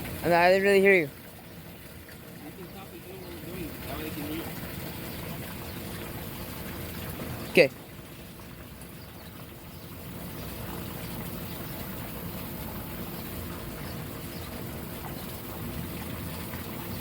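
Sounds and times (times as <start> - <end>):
pool pump running: 0.0 - 17.0
water rushing: 0.0 - 17.0.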